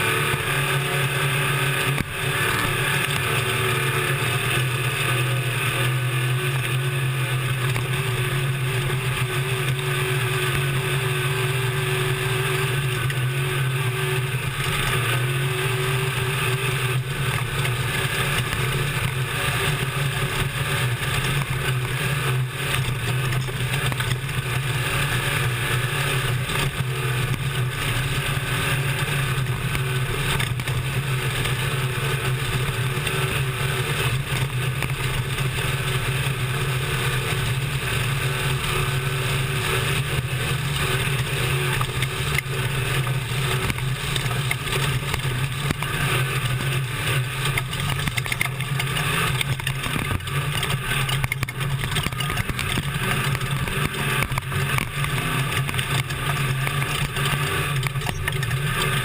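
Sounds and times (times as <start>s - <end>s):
chassis rattle: 0.0s - 59.0s
rush of wind and dirt: 0.0s - 59.0s
truck engine running hard: 0.0s - 59.0s.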